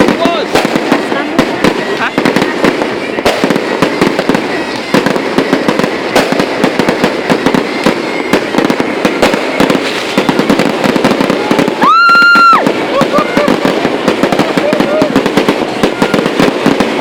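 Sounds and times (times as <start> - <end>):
fireworks bangs and crackles: 0.0 - 17.0
high firework whistle: 0.0 - 17.0.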